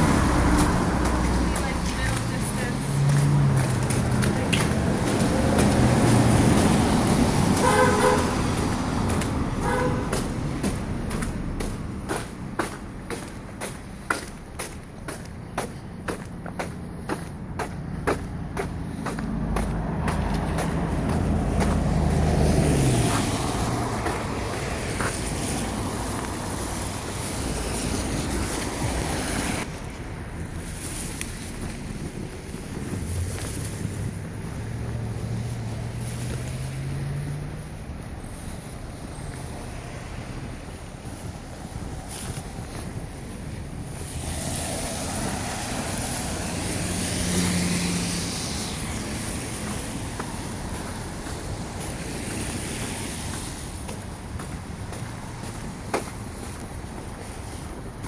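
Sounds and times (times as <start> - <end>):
engine humming: 0.0 - 58.0
vehicle passing: 0.0 - 58.0.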